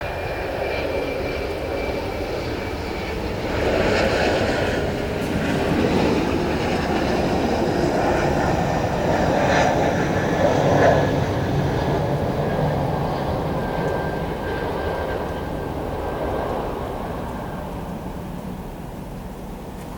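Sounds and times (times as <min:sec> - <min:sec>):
jet engines of landing plane: 0:00.0 - 0:19.9.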